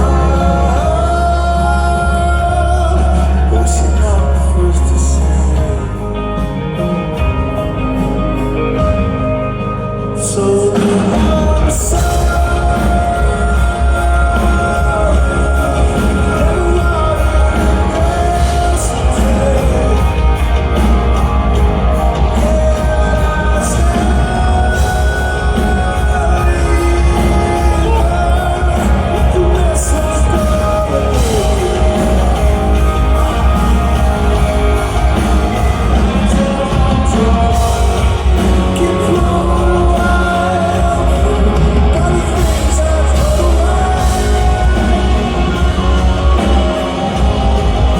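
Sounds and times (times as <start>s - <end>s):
drums: 0.0s - 47.9s
electric guitars: 0.0s - 47.9s
heavy bass: 0.0s - 47.9s
person singing: 0.0s - 47.9s.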